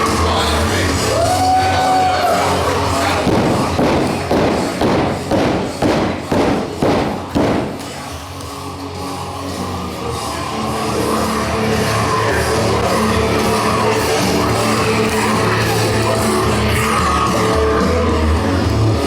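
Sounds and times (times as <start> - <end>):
heavy rock music with guitars: 1.9 - 19.0.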